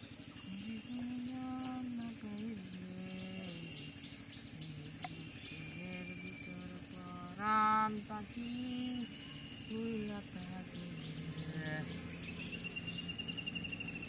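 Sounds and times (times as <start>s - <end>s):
birds chirping: 0.0s - 14.0s
high insect drone: 0.0s - 14.0s
loud harmonic bird call: 0.0s - 14.0s.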